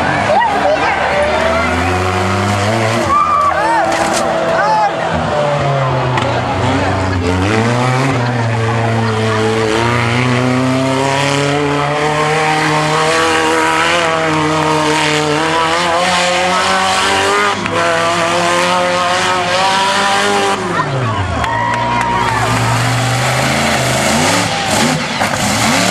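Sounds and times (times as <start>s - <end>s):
monster truck engine revving: 0.0s - 25.9s.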